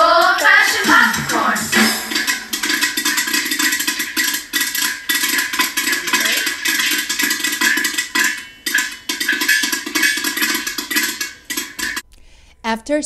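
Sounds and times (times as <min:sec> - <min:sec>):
rapid percussive clattering: 0:00.0 - 0:12.0.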